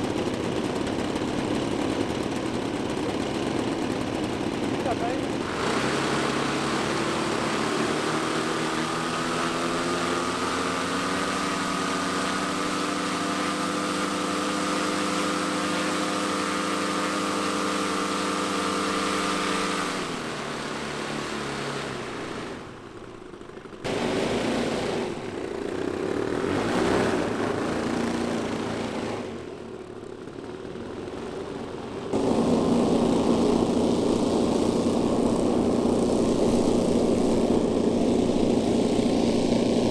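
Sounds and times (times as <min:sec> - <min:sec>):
model airplane engines running: 0:00.0 - 0:39.9.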